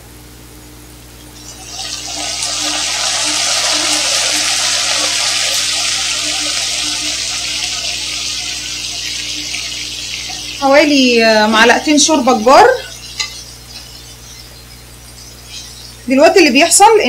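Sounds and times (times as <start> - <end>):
broth sizzling in hot oil: 1.4 - 17.0.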